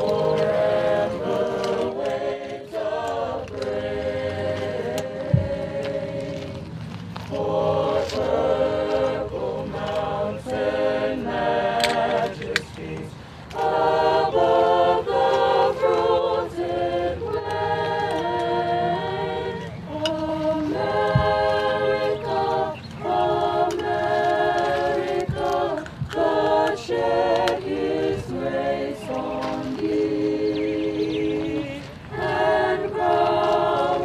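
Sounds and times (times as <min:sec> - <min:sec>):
choir singing a cappella: 0:00.0 - 0:34.0.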